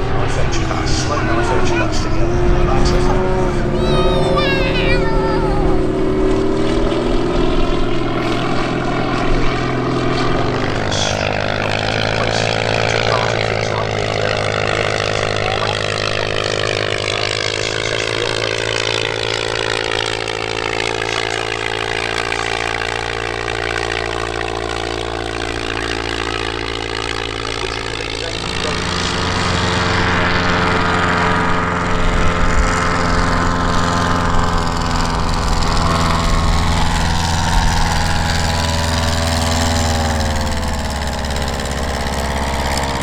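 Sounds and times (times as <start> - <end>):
propeller aircraft engine: 0.0 - 43.0.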